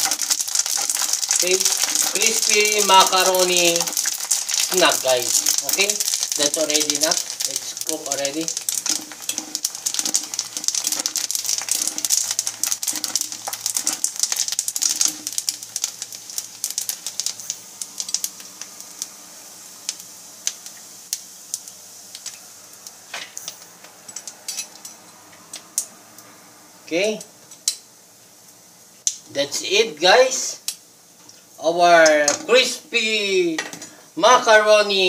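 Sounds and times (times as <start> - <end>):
crackling and popping oil: 0.0 - 26.3, 27.0 - 29.4, 30.6 - 32.7
food deep-frying in hot oil: 0.0 - 35.0.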